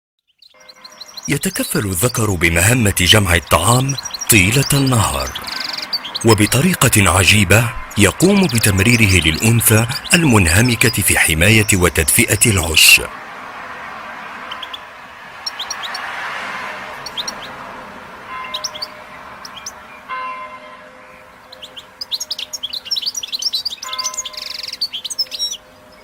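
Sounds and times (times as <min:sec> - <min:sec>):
finches chirping: 0:00.2 - 0:13.0, 0:14.4 - 0:16.1, 0:17.0 - 0:17.6, 0:18.3 - 0:20.1, 0:21.1 - 0:26.0.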